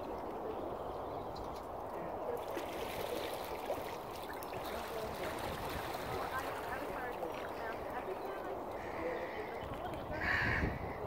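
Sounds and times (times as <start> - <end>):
lake water lapping: 0.0 - 11.0
small water splashes: 0.0 - 11.0.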